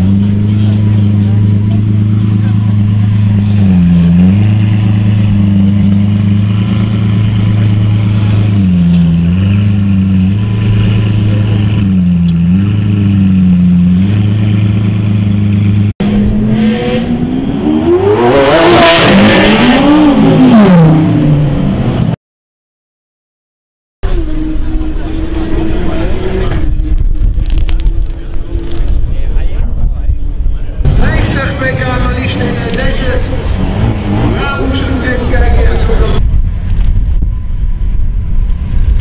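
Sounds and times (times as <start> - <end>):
car engine idling and revving: 0.0 - 22.2, 24.0 - 39.0.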